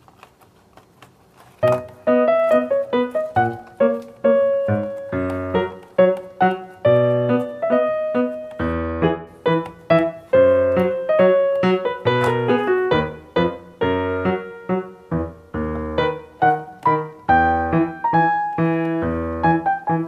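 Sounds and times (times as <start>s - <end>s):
keyboard music: 1.6s - 20.0s.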